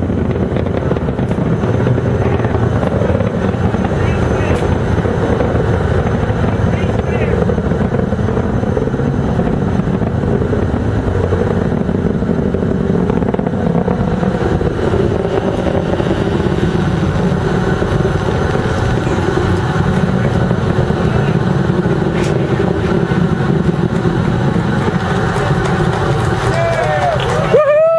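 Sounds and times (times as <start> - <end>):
rocket engines roaring: 0.0 - 27.9.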